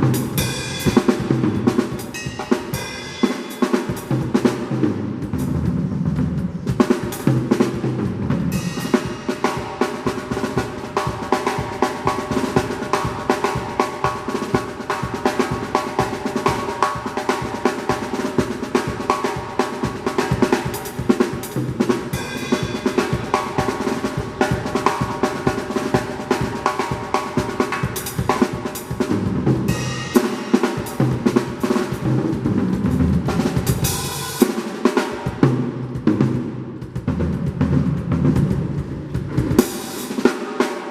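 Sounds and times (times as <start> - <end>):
drum kit playing fast groove: 0.0 - 40.9.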